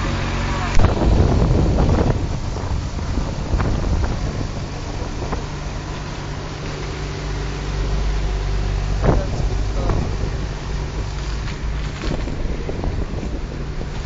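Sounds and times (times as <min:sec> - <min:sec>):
engine idling: 0:00.0 - 0:14.0
wind on microphone: 0:00.0 - 0:14.0.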